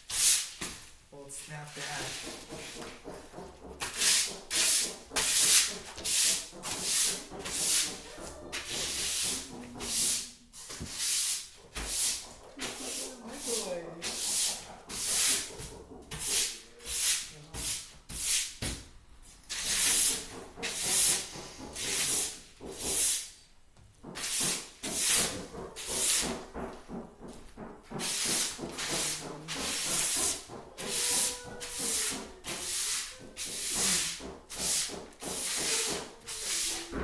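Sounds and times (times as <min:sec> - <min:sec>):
broom sweeping hard floor: 0:00.0 - 0:37.0.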